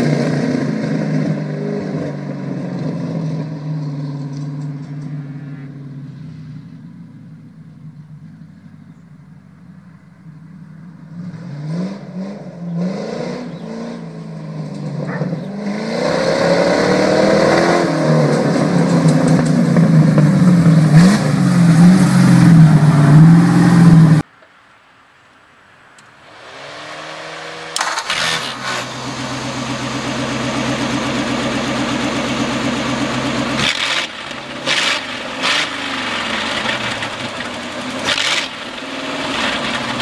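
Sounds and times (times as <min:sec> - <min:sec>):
tractor engine revving: 0:00.0 - 0:24.3, 0:26.2 - 0:40.0.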